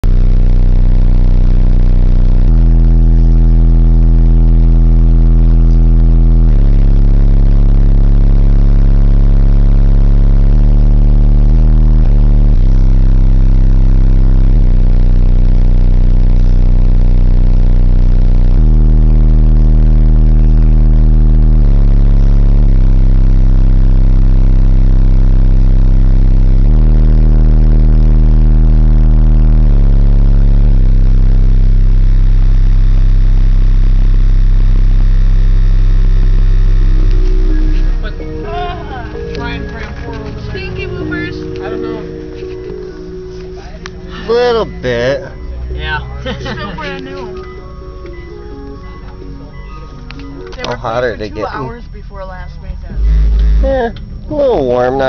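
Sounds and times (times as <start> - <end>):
loud heavy bass music: 0.0 - 55.0.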